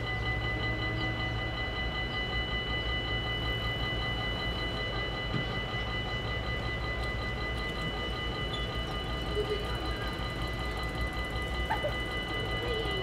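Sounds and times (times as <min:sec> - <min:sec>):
level-crossing warning bell: 0:00.0 - 0:13.0.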